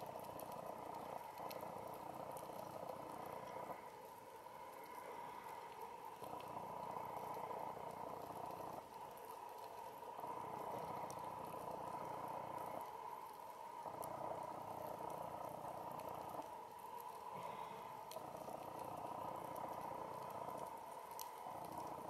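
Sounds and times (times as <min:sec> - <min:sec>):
faint sharp clicks: 0:00.0 - 0:22.0.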